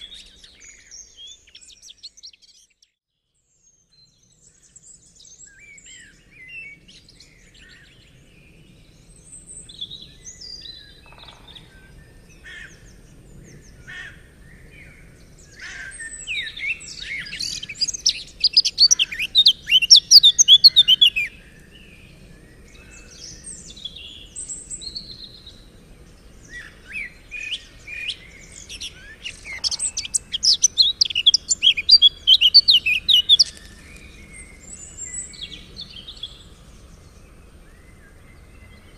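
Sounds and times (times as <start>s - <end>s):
quiet bird chirps: 0.0s - 38.9s
loud rapid high birdsong: 4.3s - 38.9s.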